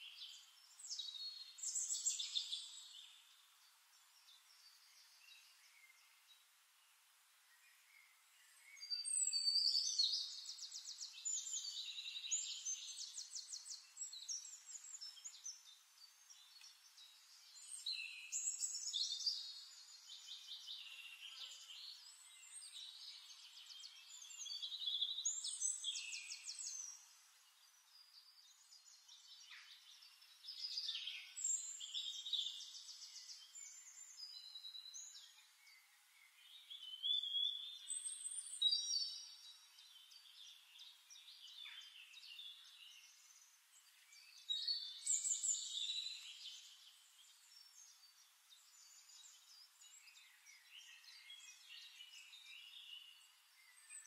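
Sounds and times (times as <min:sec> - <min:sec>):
songbird trilling and chirping: 0:00.0 - 0:06.3, 0:08.5 - 0:54.0.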